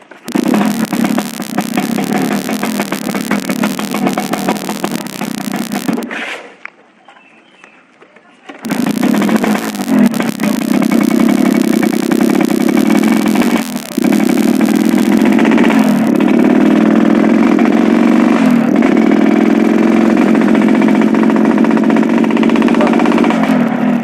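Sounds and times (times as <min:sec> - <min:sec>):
motorcycle engine growling: 0:00.2 - 0:06.1, 0:08.6 - 0:24.0.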